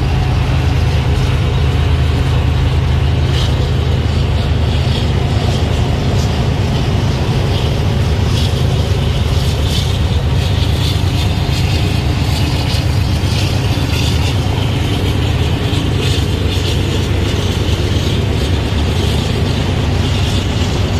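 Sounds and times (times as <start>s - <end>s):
diesel locomotive rumble: 0.0s - 20.9s
train wheels clicking: 0.0s - 20.9s.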